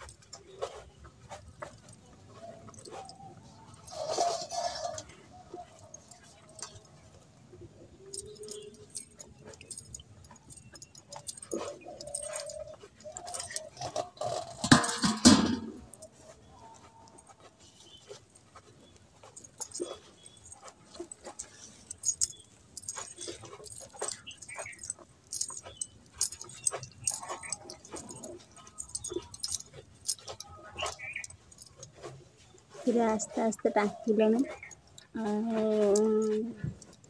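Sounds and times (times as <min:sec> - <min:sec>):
bangles clinking: 0:00.0 - 0:37.0.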